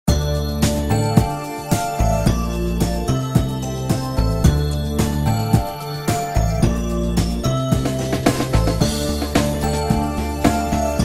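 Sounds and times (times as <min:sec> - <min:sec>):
bass line: 0:00.1 - 0:11.0
bright tune of struck notes: 0:00.1 - 0:11.0.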